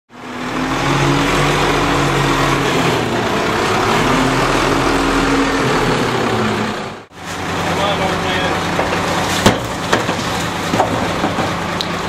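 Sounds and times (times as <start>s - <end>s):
garbage truck diesel engine running: 0.1s - 12.0s.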